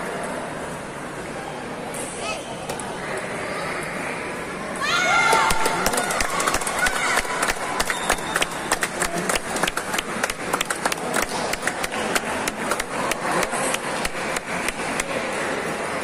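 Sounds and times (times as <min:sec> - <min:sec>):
general murmur: 0:00.0 - 0:16.0.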